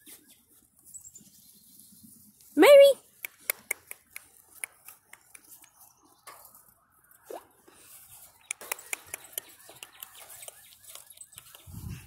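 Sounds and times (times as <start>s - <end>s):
rustling of grass and leaves: 0.0s - 3.2s, 4.2s - 12.0s.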